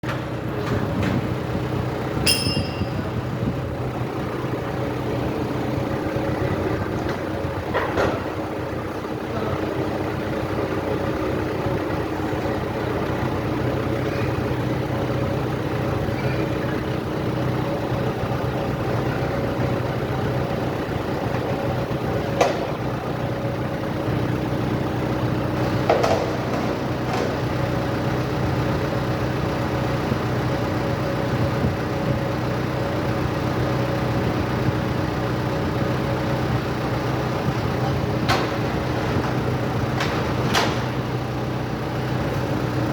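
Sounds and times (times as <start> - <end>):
vehicle engine idling: 0.0 - 42.9.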